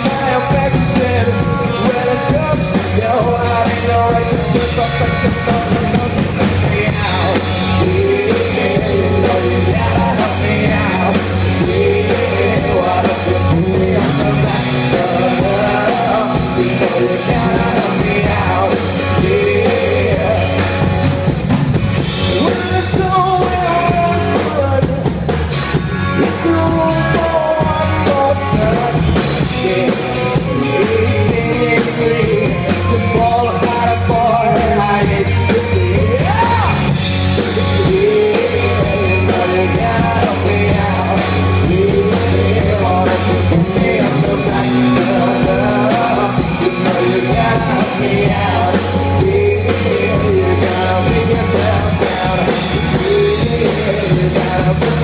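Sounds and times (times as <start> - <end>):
person singing lead vocal: 0.0 - 55.0
rock band playing: 0.0 - 55.0.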